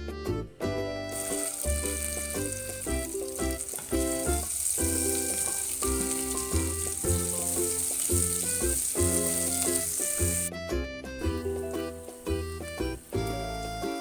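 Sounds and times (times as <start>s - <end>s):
background music: 0.0s - 14.0s
food sizzling in hot oil: 1.0s - 10.5s, 11.2s - 14.0s.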